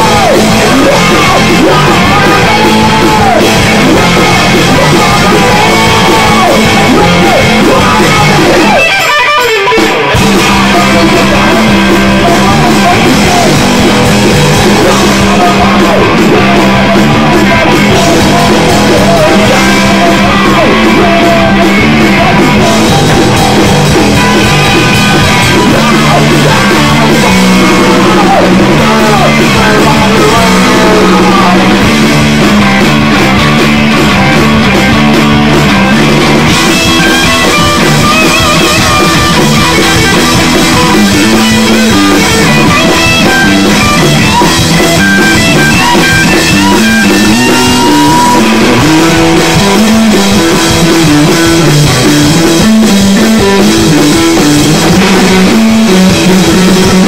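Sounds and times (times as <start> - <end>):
loud rock song: 0.0 - 57.0.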